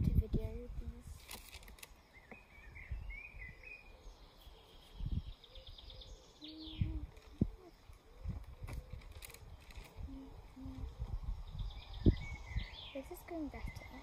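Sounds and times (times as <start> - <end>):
birdsong: 0.2 - 14.0.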